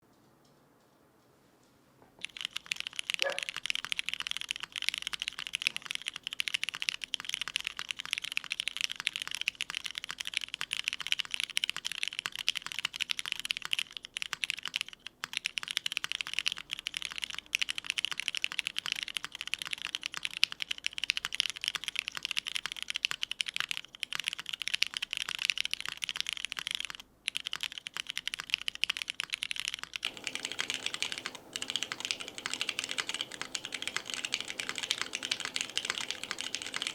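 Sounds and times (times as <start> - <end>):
mechanical keyboard typing: 2.2 - 36.9.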